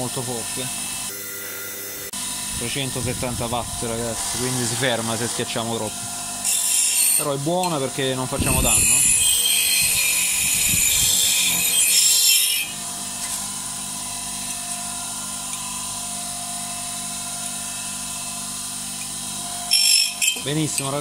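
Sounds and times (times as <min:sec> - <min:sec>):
bench grinder humming: 0:00.0 - 0:21.0.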